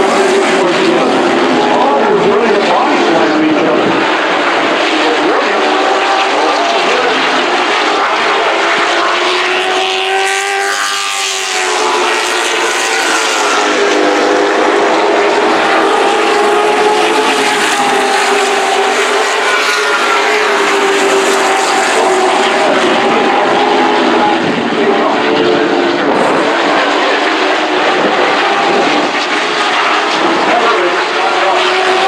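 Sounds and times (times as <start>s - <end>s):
race truck engines: 0.0s - 32.0s.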